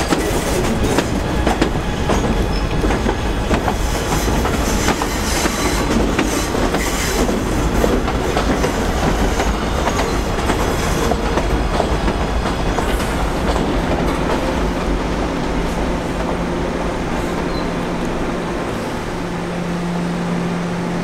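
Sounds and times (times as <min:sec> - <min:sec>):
subway train wheels clicking on rails: 0:00.0 - 0:21.0.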